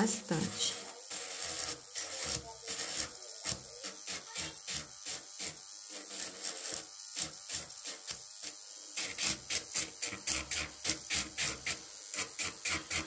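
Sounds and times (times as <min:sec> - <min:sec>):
electric nail drill grinding: 0:00.0 - 0:13.0.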